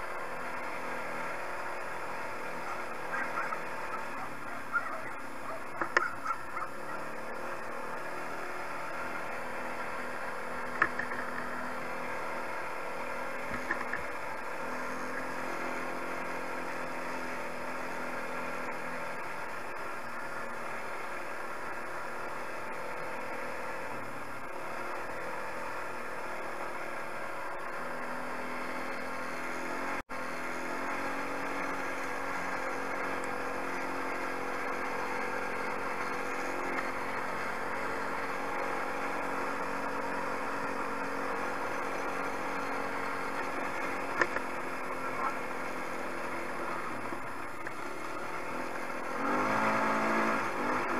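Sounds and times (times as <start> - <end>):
quad engine running: 0.0 - 50.9.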